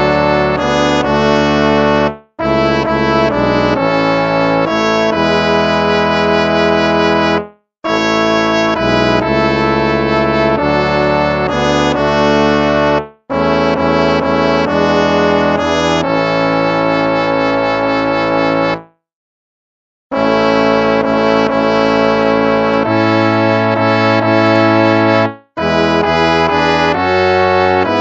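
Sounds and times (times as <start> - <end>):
instrumental hymn with held chords: 0.0 - 19.0, 20.1 - 28.0.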